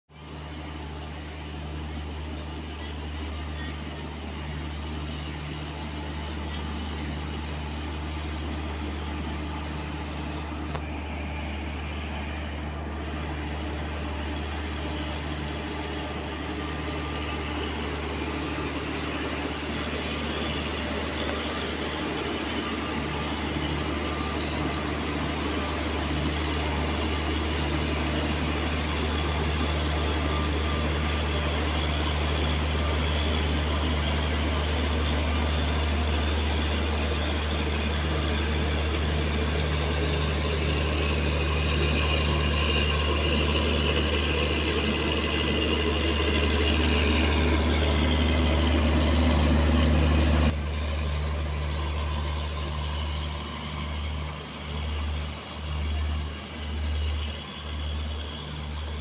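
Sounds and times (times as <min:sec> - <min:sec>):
train running noise: 0:00.1 - 0:59.0
electric locomotive humming: 0:00.2 - 0:59.0.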